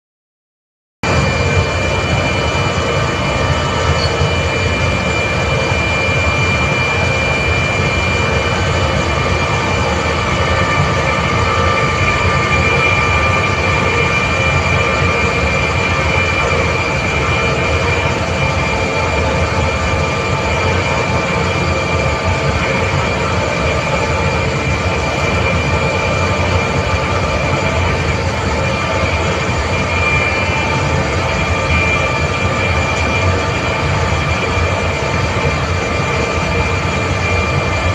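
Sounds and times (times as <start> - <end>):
air compressor whining: 1.0 - 37.9.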